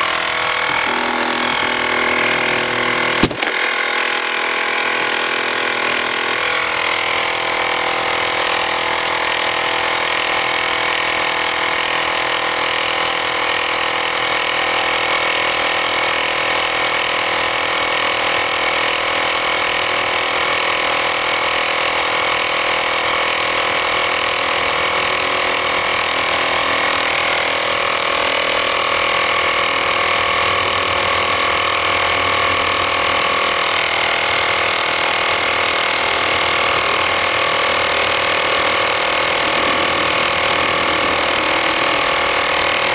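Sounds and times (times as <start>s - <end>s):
tire inflator pump running: 0.0s - 42.9s.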